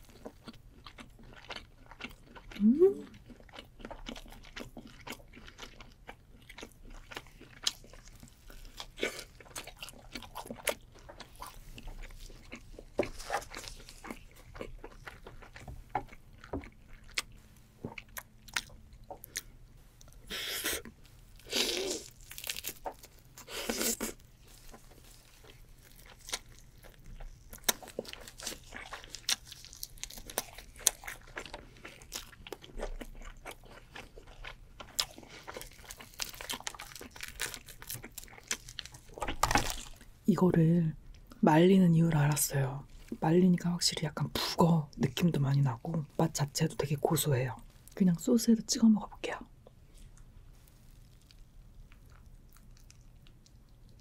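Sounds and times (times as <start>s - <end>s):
close chewing and crunching: 0.0s - 54.0s.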